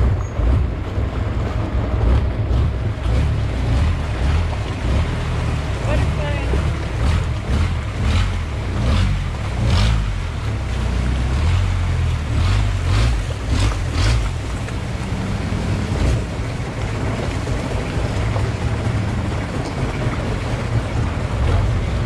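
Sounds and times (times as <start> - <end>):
boat engine rumbling: 0.0 - 22.0
water rushing past hull: 0.0 - 22.0.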